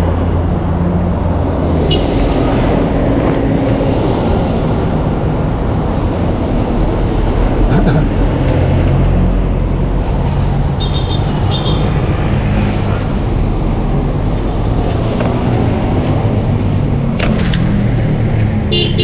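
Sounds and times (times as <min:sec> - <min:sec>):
truck engine and road noise: 0:00.0 - 0:19.0.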